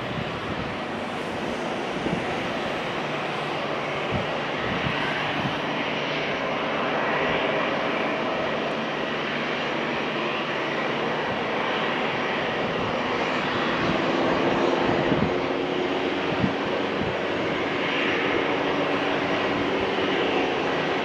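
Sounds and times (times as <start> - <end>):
aircraft engine rushing: 0.0 - 21.0.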